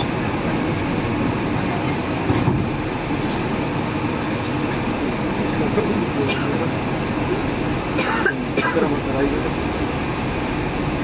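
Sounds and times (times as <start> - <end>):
train rumbling along guideway: 0.0 - 11.0.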